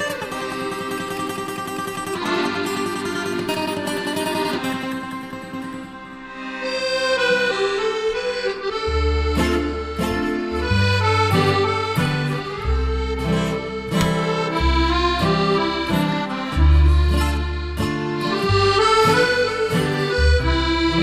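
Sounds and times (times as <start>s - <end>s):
instrumental music with bass line: 0.0s - 21.0s.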